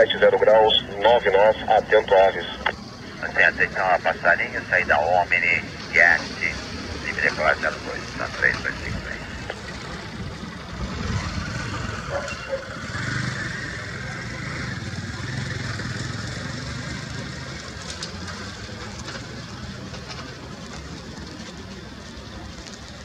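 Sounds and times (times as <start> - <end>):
jet engines humming: 0.0 - 23.0.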